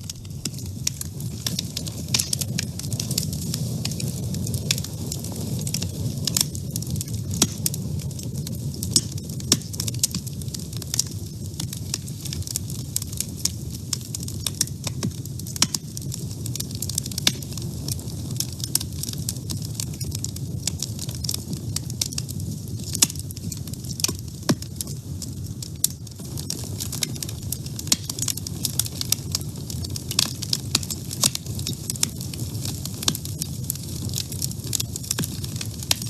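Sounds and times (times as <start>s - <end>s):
low rumble of flames: 0.0s - 36.0s
wood fire crackling and popping: 0.0s - 36.0s.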